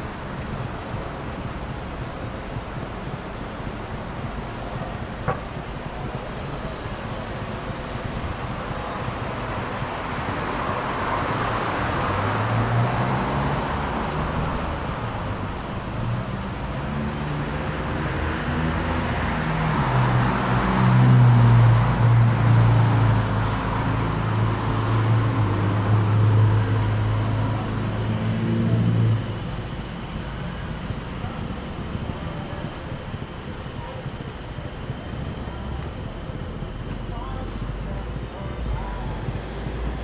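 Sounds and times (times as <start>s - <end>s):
cars passing on road: 0.0s - 40.0s
vehicle engine hum: 0.0s - 40.0s.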